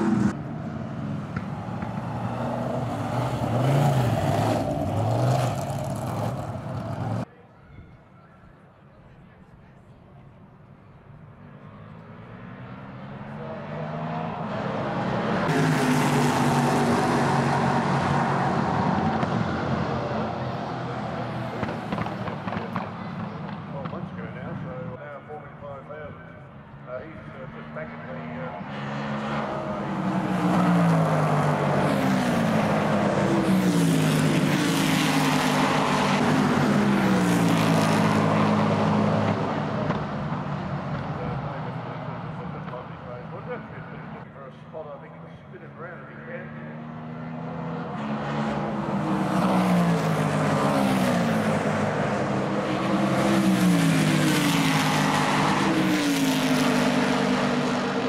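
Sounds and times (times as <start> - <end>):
racing car engines accelerating: 0.0 - 7.3, 11.2 - 25.8, 26.4 - 58.0.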